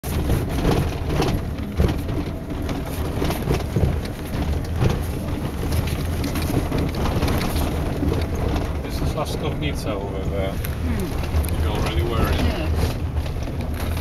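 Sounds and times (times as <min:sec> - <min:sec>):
car knocks and rattles: 0:00.0 - 0:14.0
car rumbling on dirt road: 0:00.0 - 0:14.0.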